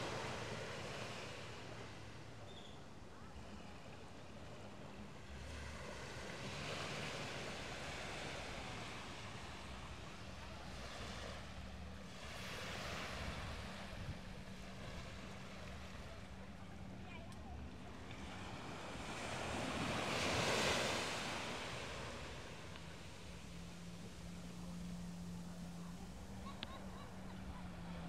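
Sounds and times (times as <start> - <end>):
ocean surf washing onto beach: 0.0 - 2.3, 5.7 - 28.0
steady low hum: 0.0 - 28.0.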